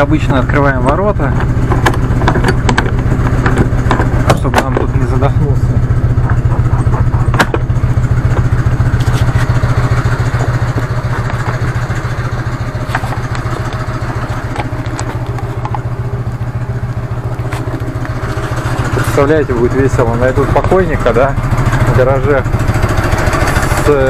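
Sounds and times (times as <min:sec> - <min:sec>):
motorcycle engine idling: 0:00.0 - 0:24.0
valve ticking: 0:00.9 - 0:23.8.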